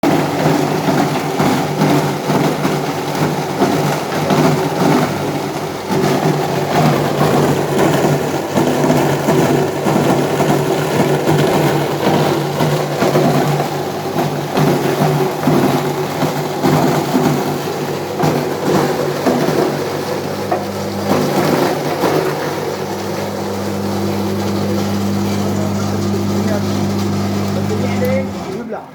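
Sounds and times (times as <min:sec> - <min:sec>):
fast machine rattle: 0:00.0 - 0:28.8
machine motor hum: 0:00.0 - 0:28.9.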